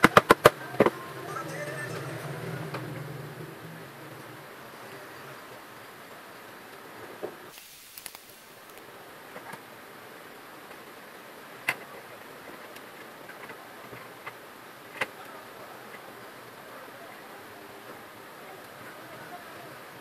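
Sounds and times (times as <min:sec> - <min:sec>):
faint steady hum: 0:00.3 - 0:20.0.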